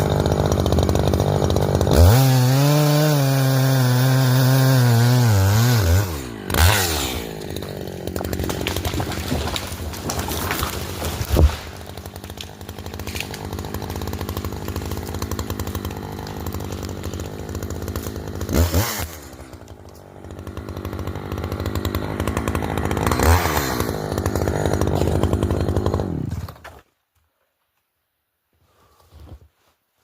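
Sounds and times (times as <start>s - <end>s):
chainsaw cutting wood: 0.0s - 26.9s.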